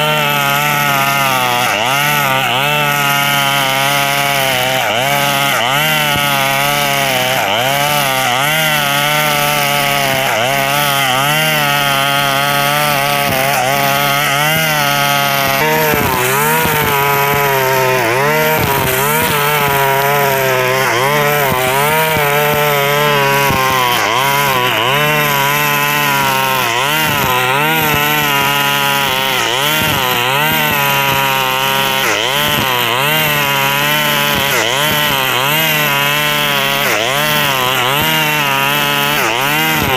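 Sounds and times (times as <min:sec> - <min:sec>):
brush cutter engine droning: 0:00.0 - 0:39.9.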